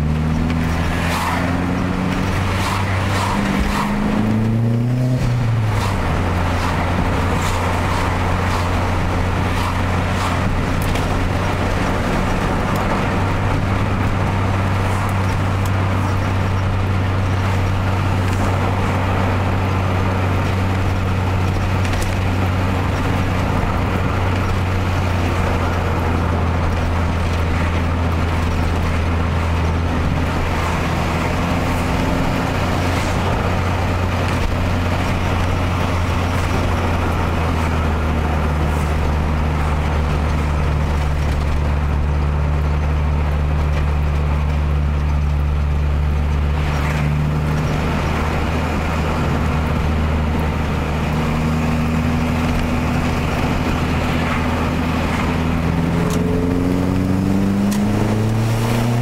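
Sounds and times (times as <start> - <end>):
car engine: 0.0 - 59.0
road noise inside car: 0.0 - 59.0.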